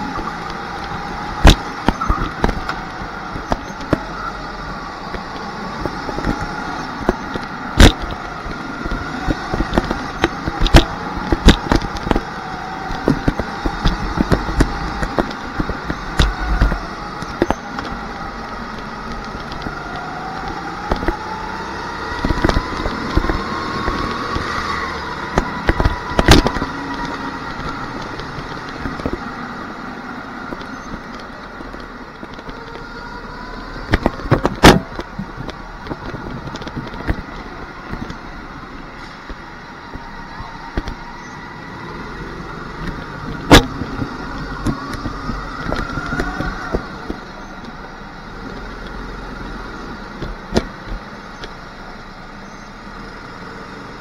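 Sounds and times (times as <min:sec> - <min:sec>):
go-kart motor running: 0:00.0 - 0:54.0.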